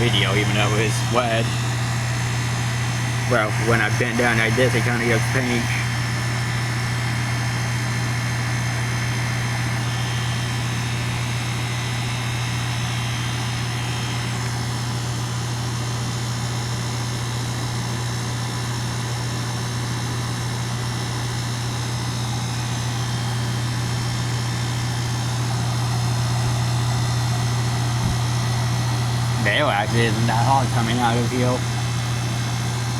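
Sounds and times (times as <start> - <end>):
heat pump humming: 0.0 - 32.9.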